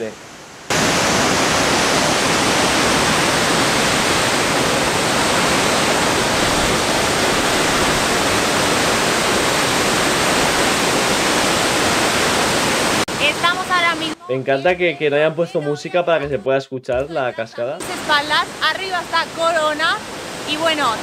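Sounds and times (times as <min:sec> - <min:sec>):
waterfall rushing: 0:00.0 - 0:14.2, 0:17.4 - 0:21.0.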